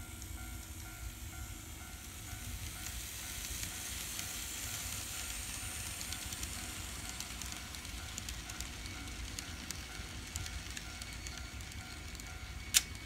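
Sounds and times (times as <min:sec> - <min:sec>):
model train hiss and rumble: 0:00.0 - 0:13.0
wheels clicking over rails: 0:02.2 - 0:13.0.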